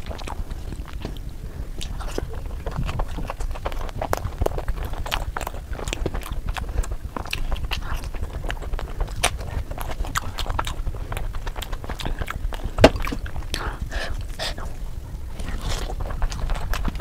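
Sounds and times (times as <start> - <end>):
wet chewing and lip smacking: 0.0 - 17.0.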